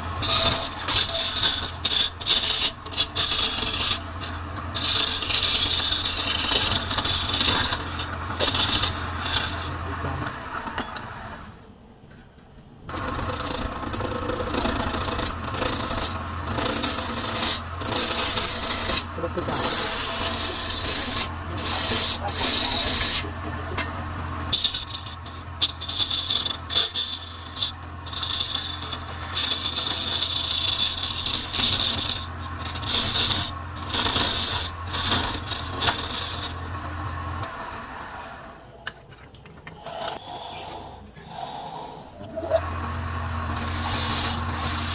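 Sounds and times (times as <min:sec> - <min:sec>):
chisel scraping wood on lathe: 0:00.0 - 0:11.6, 0:12.9 - 0:44.9
lathe motor hum: 0:00.0 - 0:11.8, 0:12.9 - 0:38.9, 0:39.7 - 0:44.9.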